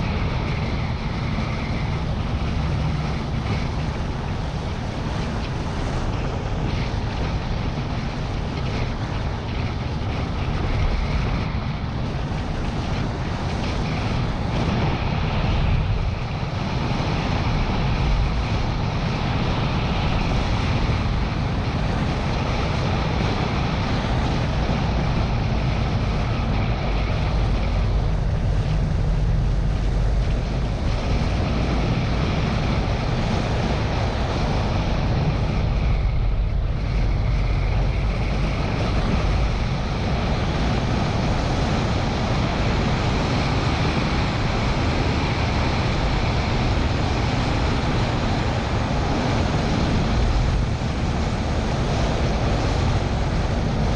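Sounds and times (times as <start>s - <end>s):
car engine and tyre noise: 0.0s - 53.9s
wind buffeting microphone: 0.0s - 53.9s.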